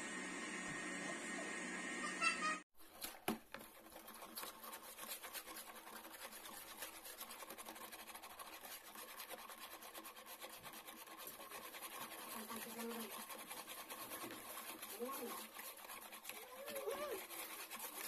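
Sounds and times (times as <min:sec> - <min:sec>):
whisk beating in plastic bowl: 0:02.8 - 0:18.0.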